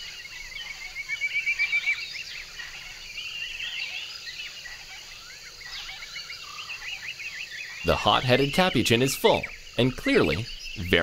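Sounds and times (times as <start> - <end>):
insect hiss: 0.0 - 11.0.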